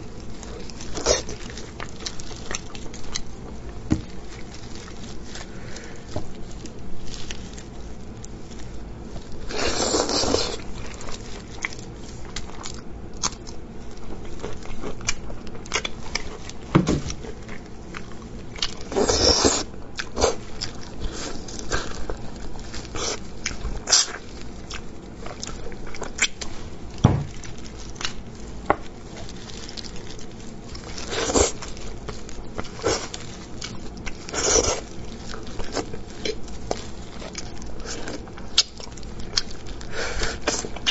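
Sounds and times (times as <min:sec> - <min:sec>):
wet chewing and smacking: 0:00.0 - 0:40.9.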